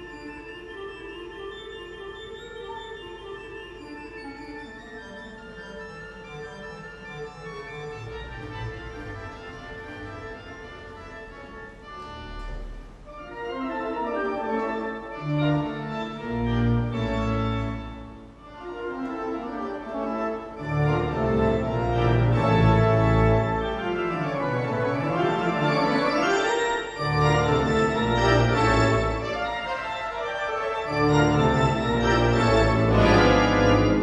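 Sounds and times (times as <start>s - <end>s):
theatre pipe organ playing: 0.0s - 34.0s.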